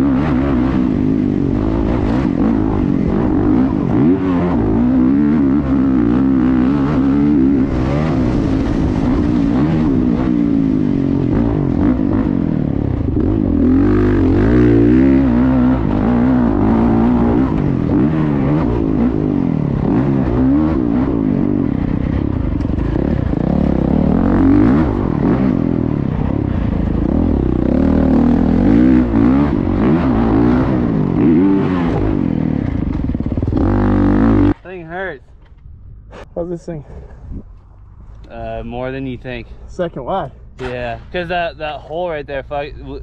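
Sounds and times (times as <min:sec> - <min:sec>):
pit bike engine revving: 0:00.0 - 0:34.8.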